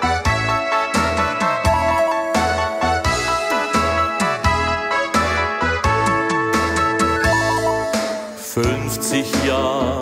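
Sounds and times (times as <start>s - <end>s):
band playing instrumental intro: 0.0s - 10.0s.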